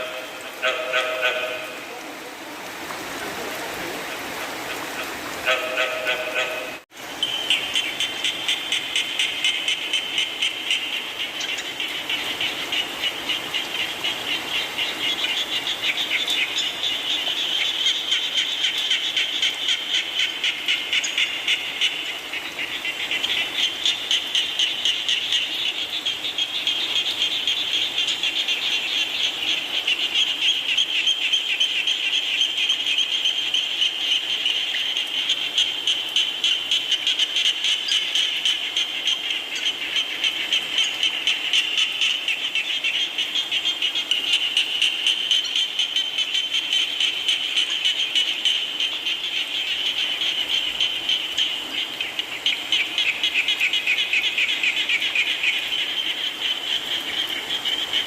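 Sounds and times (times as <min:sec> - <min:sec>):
frogs calling in pulsed trills: 0:00.0 - 0:01.9, 0:04.6 - 0:58.0
rain pattering: 0:00.0 - 0:58.0.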